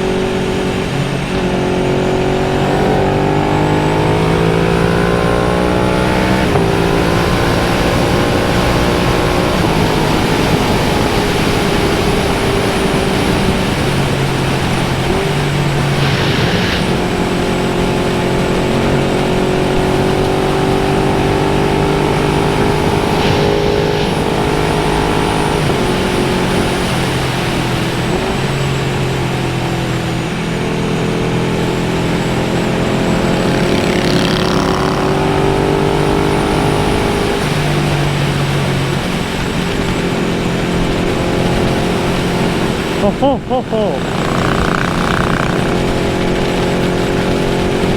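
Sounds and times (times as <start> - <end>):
motorcycle engine running: 0.0 - 47.9
wind noise: 0.0 - 47.9.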